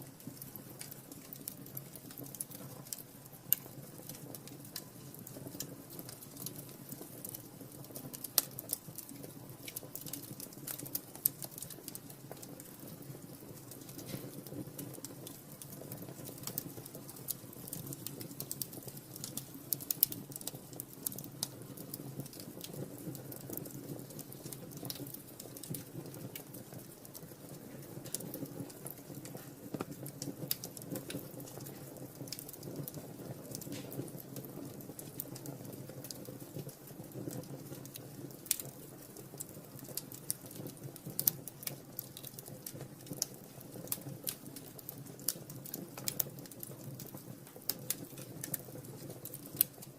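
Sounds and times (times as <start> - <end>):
flames rustling: 0.0 - 49.9
wood fire crackling and popping: 0.0 - 49.9.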